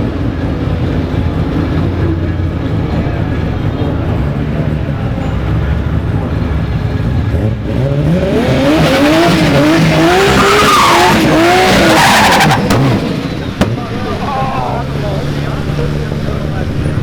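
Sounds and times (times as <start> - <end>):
drag racing car engine accelerating: 0.0 - 17.0.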